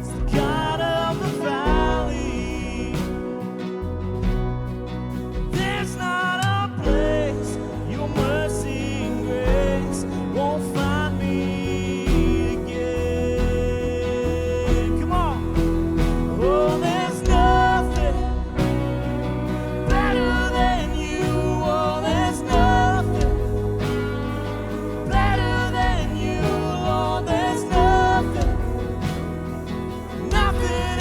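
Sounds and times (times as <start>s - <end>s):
sung melody: 0.0s - 31.0s
worship band playing: 0.0s - 31.0s.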